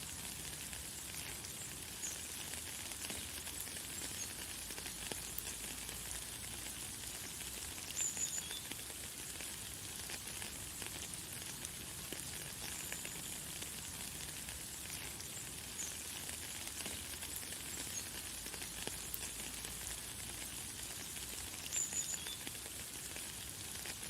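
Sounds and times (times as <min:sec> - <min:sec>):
light rain hissing: 0:00.0 - 0:24.0.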